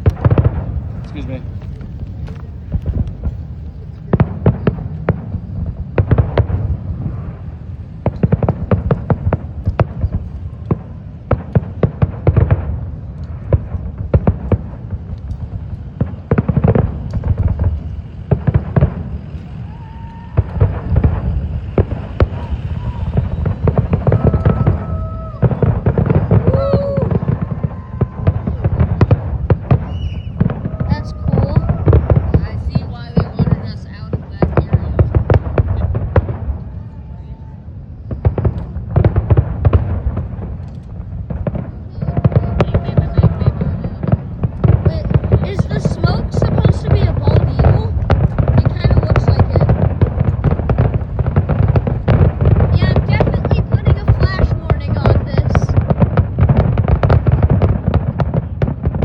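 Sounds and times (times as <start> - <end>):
fireworks bangs: 0.0 - 59.0
low rumble: 0.0 - 59.0.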